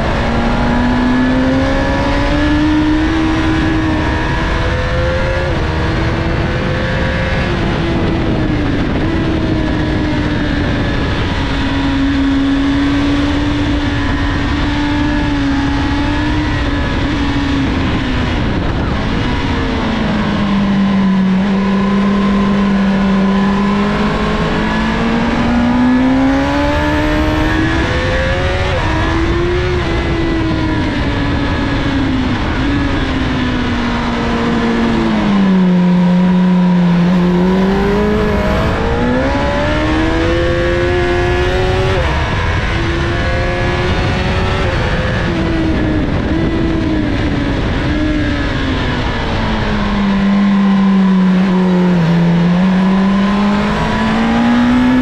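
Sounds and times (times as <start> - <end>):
motorcycle engine running hard: 0.0 - 55.0
wind rush: 0.0 - 55.0.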